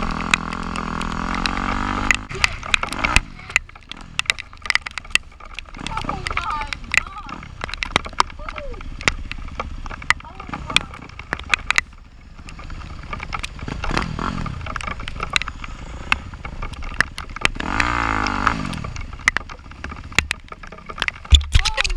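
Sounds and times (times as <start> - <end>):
motorcycle engine revving: 0.0 - 21.9
sharp ticks: 0.0 - 21.9.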